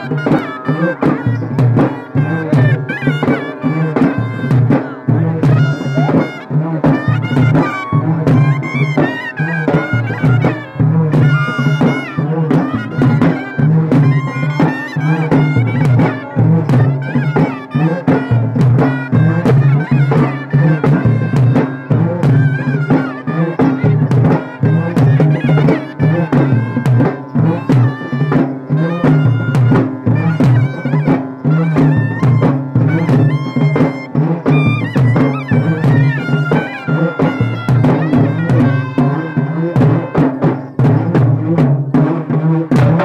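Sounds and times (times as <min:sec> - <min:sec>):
shrill reed instrument melody: 0:00.0 - 0:41.4
stick-beaten drum rhythm: 0:00.0 - 0:43.0.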